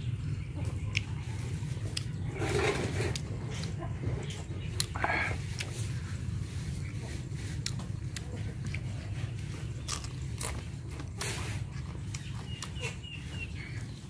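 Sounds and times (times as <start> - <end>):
steady low hum: 0.0 - 14.0
wet chewing mouth sounds: 0.6 - 14.0.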